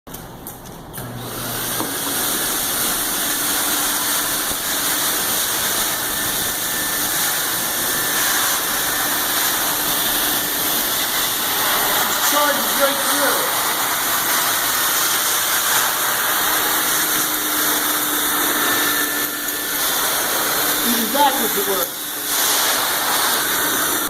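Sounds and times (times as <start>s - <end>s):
vacuum motor running: 1.0s - 24.0s.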